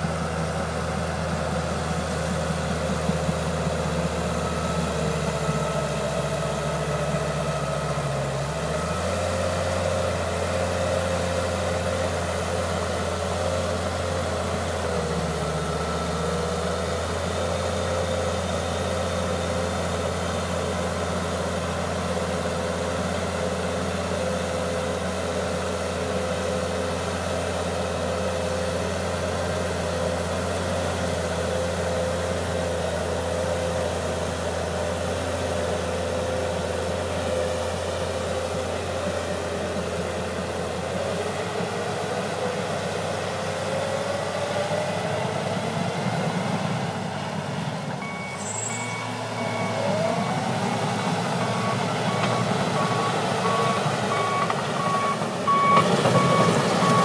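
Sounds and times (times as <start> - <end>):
dozer diesel engine humming: 0.0 - 57.0.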